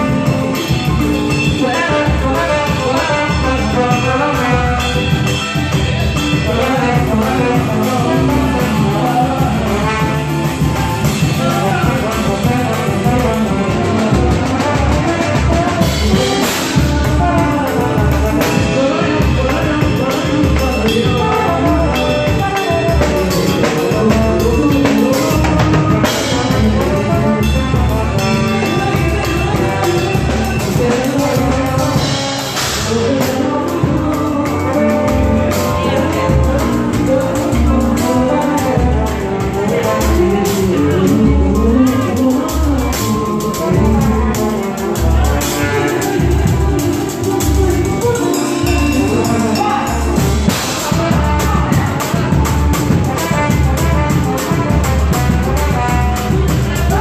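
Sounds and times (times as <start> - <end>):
samba band playing: 0.0 - 57.0
trombone melody: 0.0 - 57.0.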